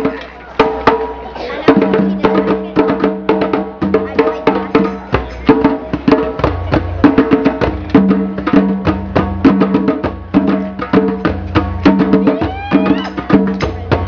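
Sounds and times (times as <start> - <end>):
hand drums playing fast rhythm: 0.0 - 14.0.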